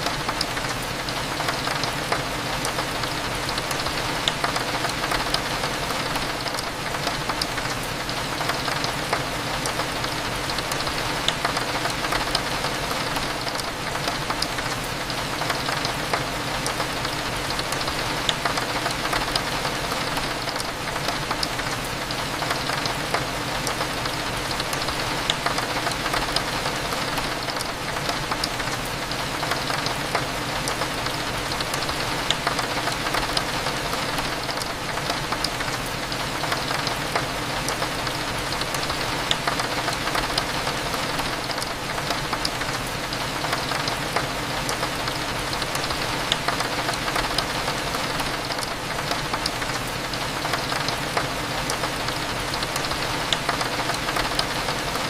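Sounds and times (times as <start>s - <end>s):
rain hitting a window: 0.0s - 55.0s.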